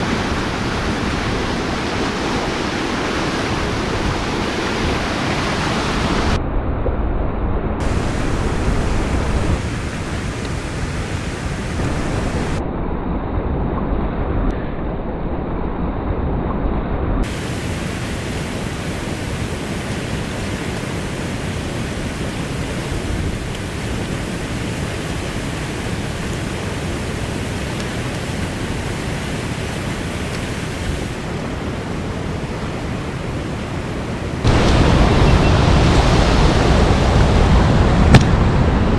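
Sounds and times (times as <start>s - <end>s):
river rushing: 0.0s - 6.4s, 7.8s - 12.6s, 17.2s - 38.9s.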